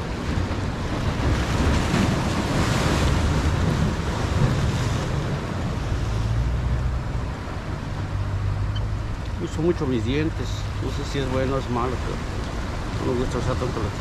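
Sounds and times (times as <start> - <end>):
surf washing against rocks: 0.0 - 14.0
wind rumbling on microphone: 0.0 - 14.0.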